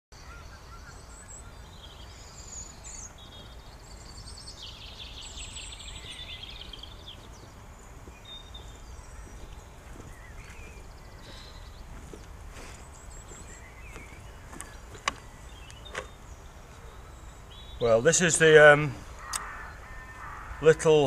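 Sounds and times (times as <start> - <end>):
small birds singing: 0.2 - 21.0.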